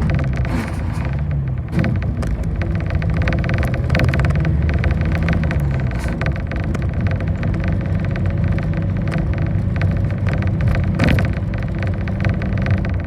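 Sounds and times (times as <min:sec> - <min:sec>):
bus engine drone: 0:00.0 - 0:13.0
bus jolt: 0:00.0 - 0:13.0
road noise: 0:00.0 - 0:13.0
small rattles: 0:00.0 - 0:13.0.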